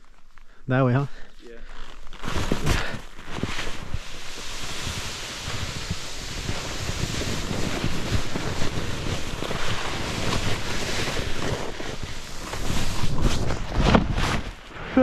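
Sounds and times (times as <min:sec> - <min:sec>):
snowboard sliding through snow: 0:00.9 - 0:15.0.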